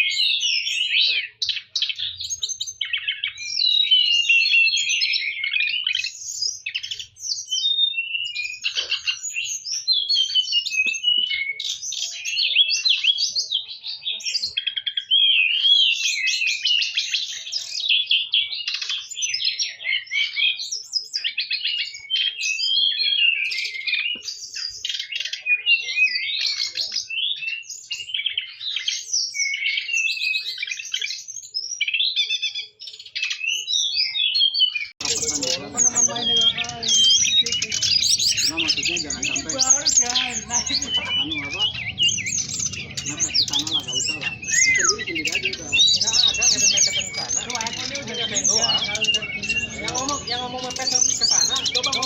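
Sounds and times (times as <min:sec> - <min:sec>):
songbird chirping and trilling: 0:00.0 - 0:52.0.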